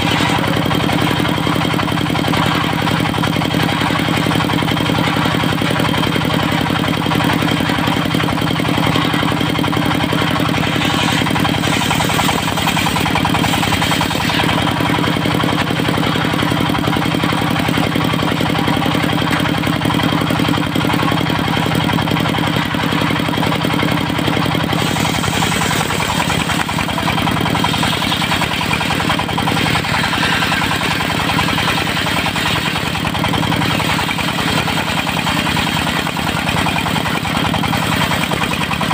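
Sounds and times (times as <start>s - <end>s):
circular saw cutting wood: 0.0s - 21.0s, 22.2s - 38.9s
diesel engine running: 0.0s - 38.9s.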